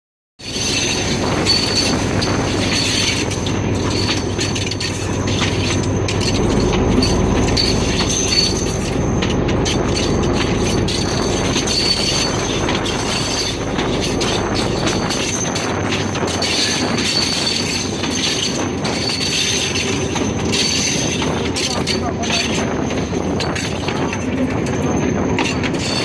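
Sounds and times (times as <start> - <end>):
high-pitched wheel tone: 0.4 - 26.0
train wheels rumbling on rails: 0.4 - 26.0.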